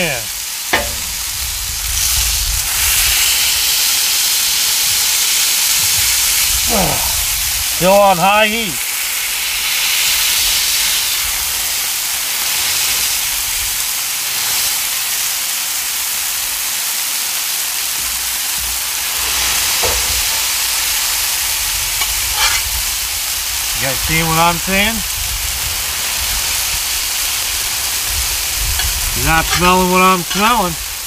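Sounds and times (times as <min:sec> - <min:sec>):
food sizzling on griddle: 0:00.0 - 0:31.0.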